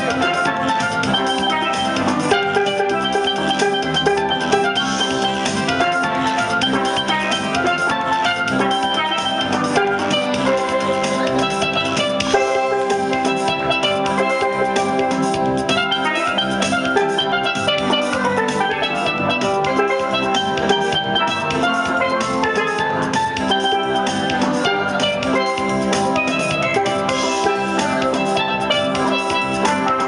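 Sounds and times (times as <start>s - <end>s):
steel pans playing: 0.0s - 30.0s.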